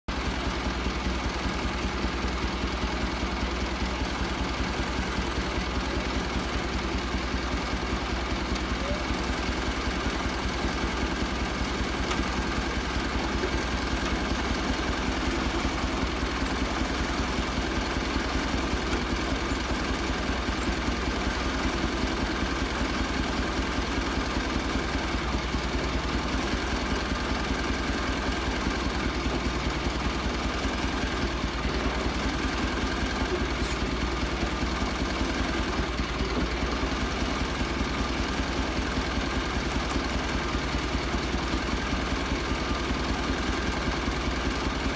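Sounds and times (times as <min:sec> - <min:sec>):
sawmill engine running: 0:00.1 - 0:44.9.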